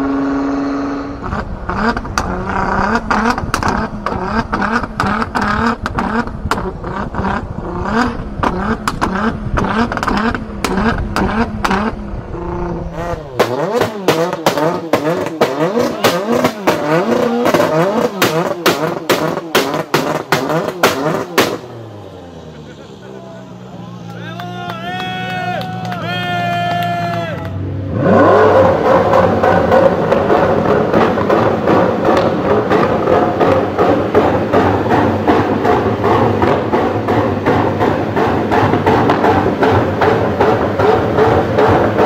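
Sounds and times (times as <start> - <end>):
exhaust pops and backfires: 0.0 - 23.0, 24.0 - 42.0
car engine revving: 0.0 - 42.0.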